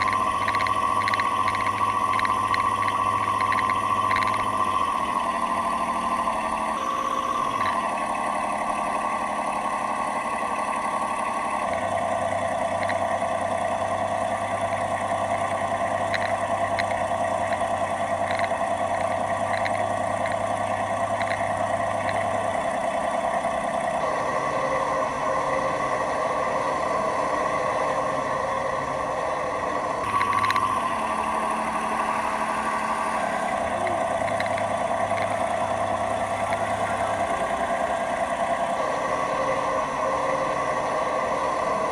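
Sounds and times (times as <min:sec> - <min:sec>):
simulated diesel engine sound: 0:00.0 - 0:41.9.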